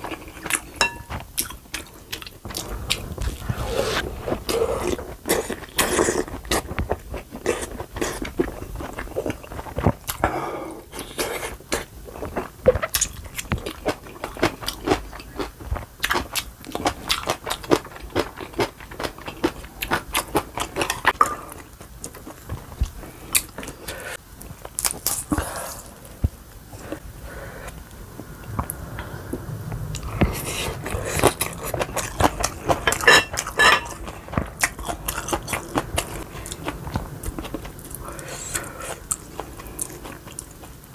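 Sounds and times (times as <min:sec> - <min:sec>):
person chewing crunchy food: 0:00.0 - 0:10.3, 0:10.9 - 0:27.0, 0:29.9 - 0:40.9.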